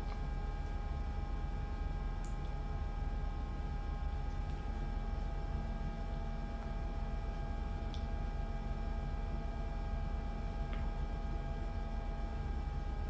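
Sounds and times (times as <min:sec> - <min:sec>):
room hum and rumble: 0:00.0 - 0:13.0.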